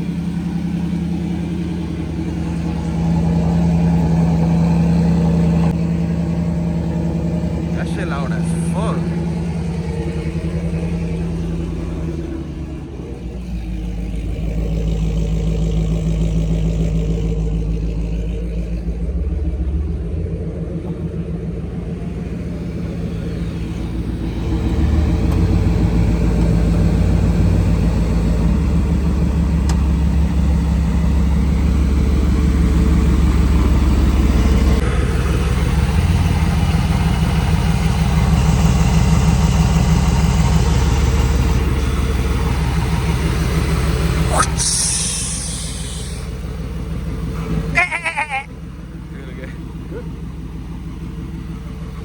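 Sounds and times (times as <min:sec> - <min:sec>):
truck engine and exhaust droning: 0:00.0 - 0:52.0.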